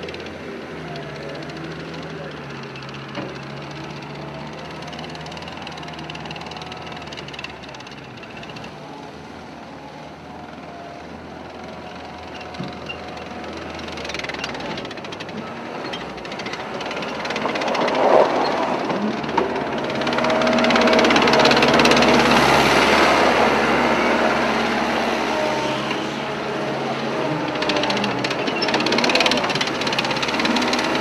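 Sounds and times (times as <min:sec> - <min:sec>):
construction machine engine running: 0:00.0 - 0:31.0.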